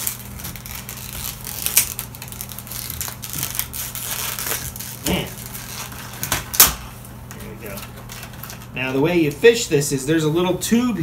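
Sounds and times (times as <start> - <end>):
plastic packaging crackling: 0.0 - 9.4.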